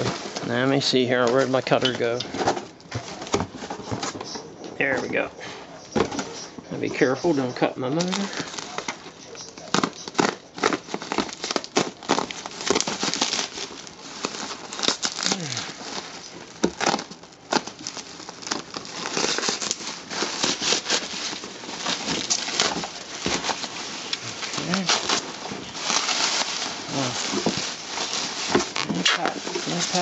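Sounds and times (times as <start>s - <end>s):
packaging crinkling and tearing: 0.0s - 30.0s.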